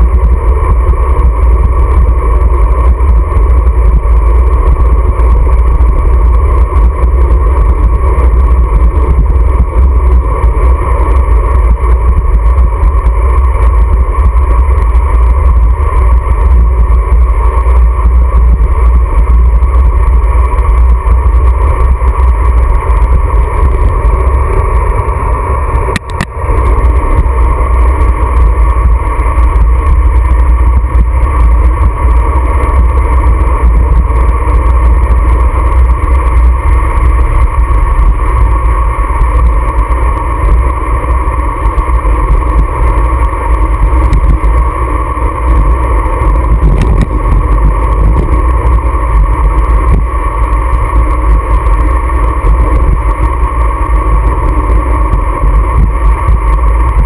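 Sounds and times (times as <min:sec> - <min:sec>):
constant hum: 0:00.0 - 0:57.0
wind buffeting camera: 0:00.0 - 0:57.0.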